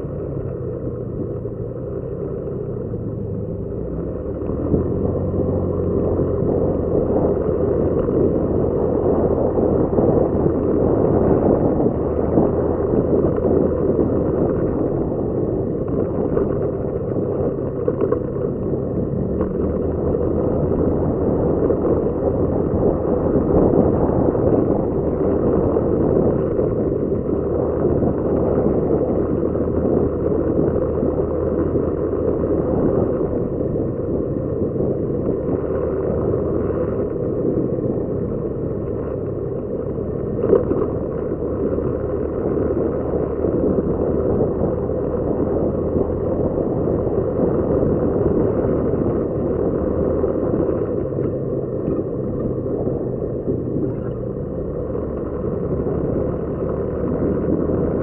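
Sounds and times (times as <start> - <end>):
motorcycle engine: 0.0 - 58.0
wind on microphone: 0.0 - 58.0.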